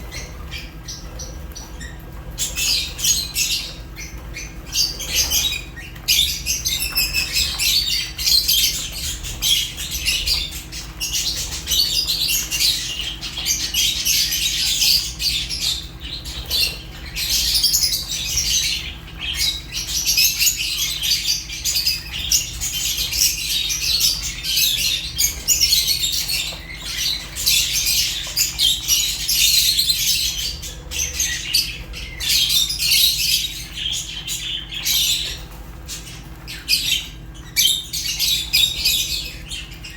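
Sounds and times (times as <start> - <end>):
lovebirds chirping and squawking: 0.0 - 39.9.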